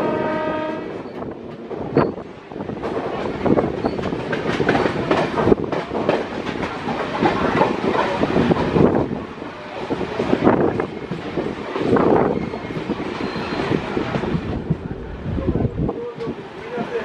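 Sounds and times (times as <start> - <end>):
train rushing noise: 0.0 - 17.0.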